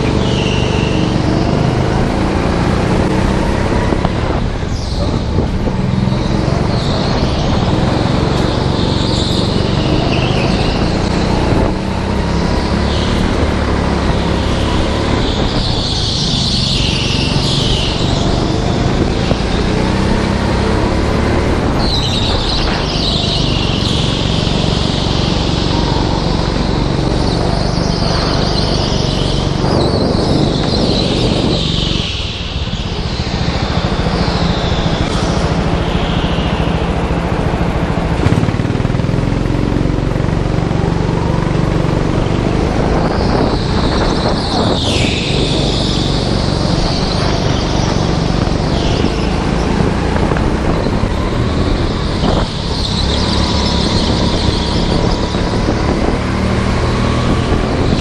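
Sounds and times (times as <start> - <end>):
go-kart engine running hard: 0.0 - 58.0
high squeals: 0.0 - 58.0.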